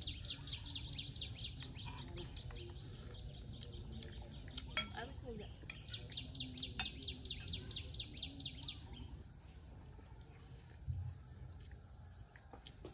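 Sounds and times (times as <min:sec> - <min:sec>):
cricket trill: 0:00.0 - 0:12.9.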